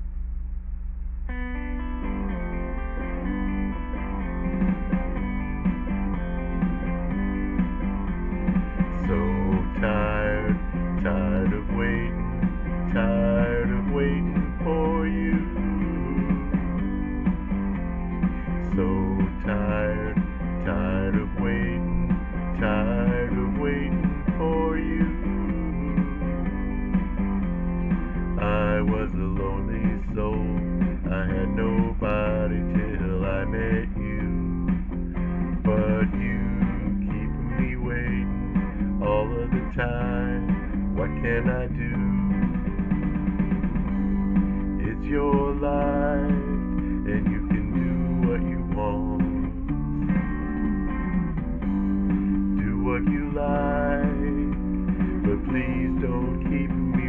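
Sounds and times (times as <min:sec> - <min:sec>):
low backing music: 0:00.0 - 0:57.0
plucked and strummed guitar: 0:01.3 - 0:57.0.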